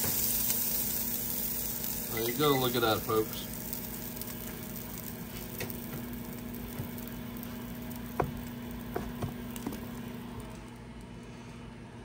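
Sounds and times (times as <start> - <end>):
fat sizzling in a pan: 0.0 - 10.7.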